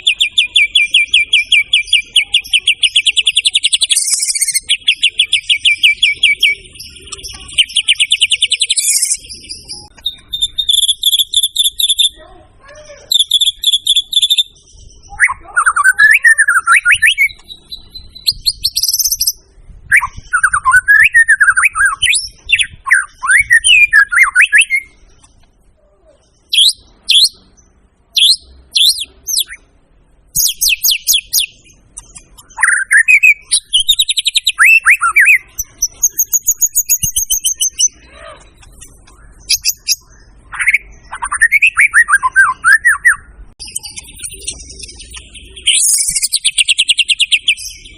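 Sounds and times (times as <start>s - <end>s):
bird singing whistles and trills: 0.0s - 12.2s, 13.1s - 25.0s, 26.4s - 29.7s, 30.3s - 47.9s.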